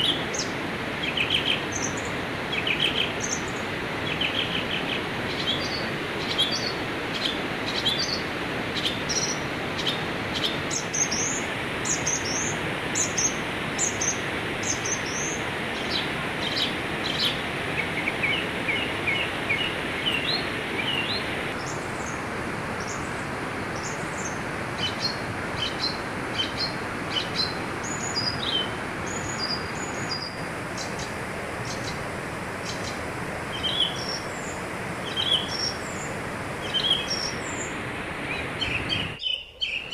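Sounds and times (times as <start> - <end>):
small birds chirping: 0.0 - 22.2, 23.8 - 32.0, 32.6 - 39.9
river rushing over rocks: 0.0 - 39.2.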